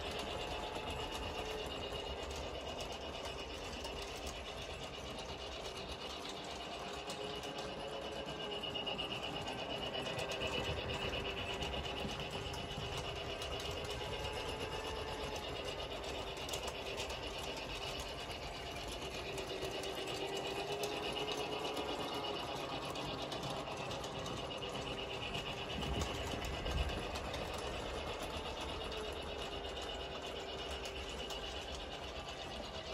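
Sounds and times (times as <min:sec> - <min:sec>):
toy train motor whirring: 0:00.0 - 0:32.9.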